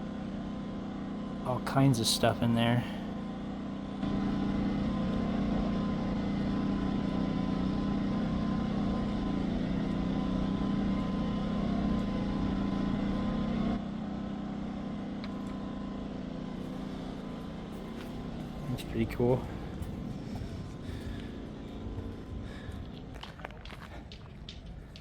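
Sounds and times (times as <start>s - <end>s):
faint steady whine: 0.0s - 25.0s
low mechanical hum: 0.0s - 25.0s.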